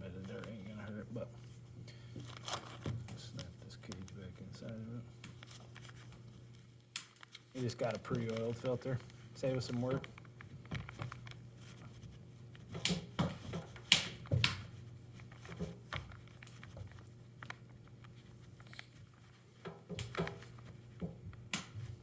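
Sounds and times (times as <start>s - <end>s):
hands handling air filter: 0.0s - 22.0s
steady low hum: 0.0s - 22.0s.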